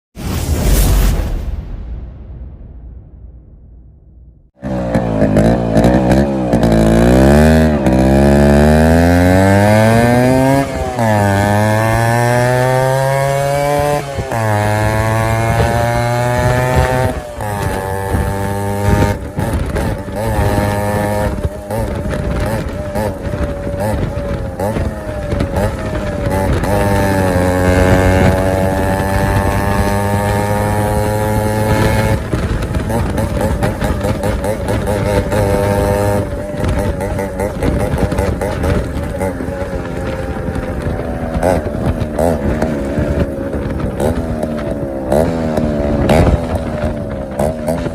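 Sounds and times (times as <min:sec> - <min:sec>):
two-stroke motorcycle engine revving: 0:04.6 - 0:47.9.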